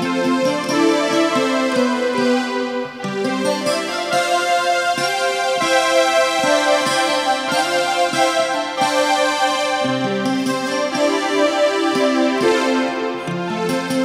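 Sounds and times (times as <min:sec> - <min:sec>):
electric piano background music: 0:00.0 - 0:14.0.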